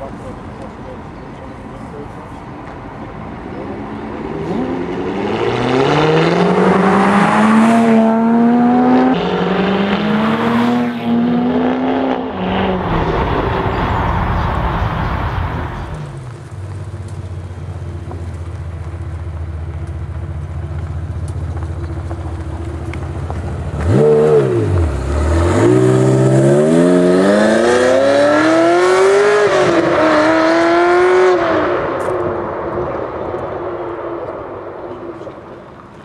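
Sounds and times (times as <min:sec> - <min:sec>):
car engine revving and pulling away: 0:02.6 - 0:36.0.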